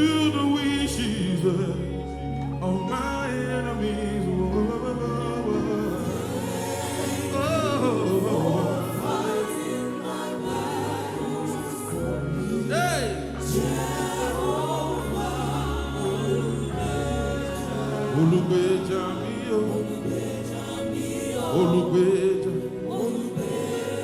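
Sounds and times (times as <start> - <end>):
live gospel worship music: 0.0 - 24.0
singing: 0.0 - 24.0.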